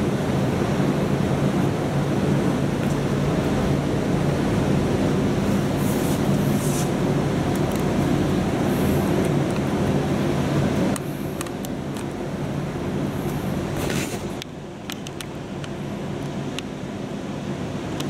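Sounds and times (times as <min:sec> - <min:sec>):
broad rushing noise: 0:00.0 - 0:18.0
low droning hum: 0:00.0 - 0:18.0.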